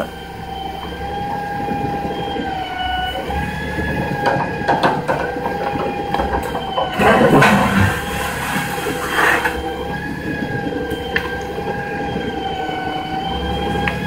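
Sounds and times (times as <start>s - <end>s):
diesel engine running: 0.0s - 14.0s
hydraulic boom whine: 0.0s - 14.0s.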